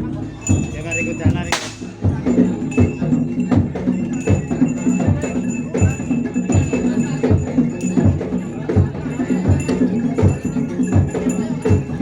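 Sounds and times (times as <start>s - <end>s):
drum strokes: 0.5s - 12.0s.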